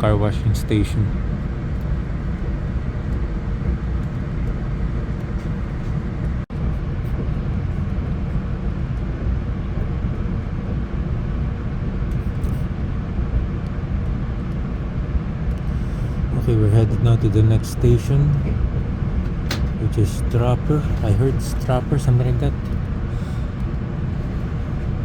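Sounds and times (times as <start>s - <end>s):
train rumble inside coach: 0.0s - 25.0s.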